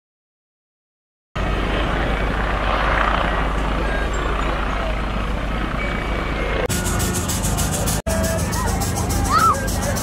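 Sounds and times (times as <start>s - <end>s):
helicopter rotor noise: 1.4s - 10.0s.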